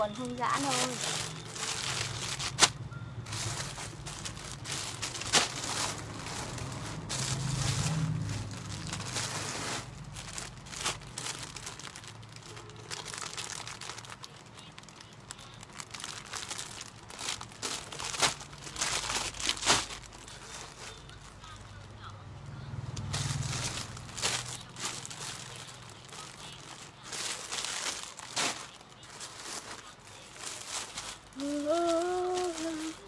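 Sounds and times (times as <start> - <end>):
plastic bags crinkling: 0.0 - 22.1, 22.9 - 33.0.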